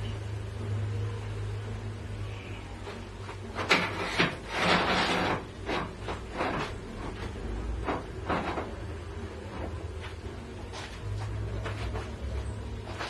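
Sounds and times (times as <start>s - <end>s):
steady low hum: 0.0s - 13.0s
metal tubing scraping and knocking: 2.4s - 13.0s.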